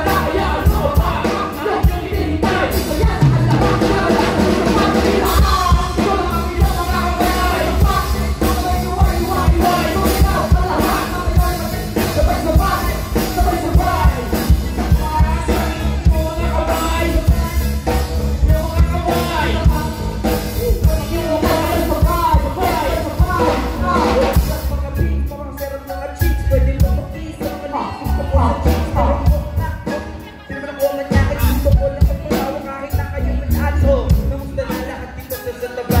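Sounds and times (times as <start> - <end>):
live band with drum kit: 0.0 - 36.0
rapping through pa system: 0.0 - 36.0.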